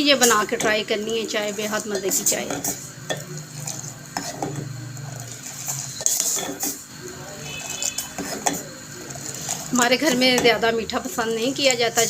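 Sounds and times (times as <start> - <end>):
metal ladle scraping a pot: 0.2 - 10.6.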